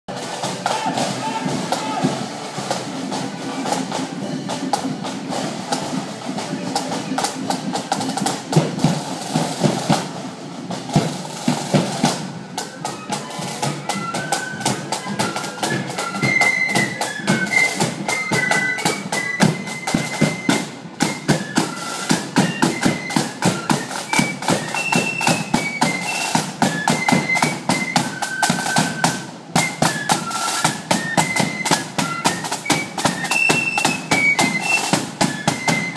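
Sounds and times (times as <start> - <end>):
high flute melody: 0.1 - 35.9
marching drums: 0.1 - 35.9.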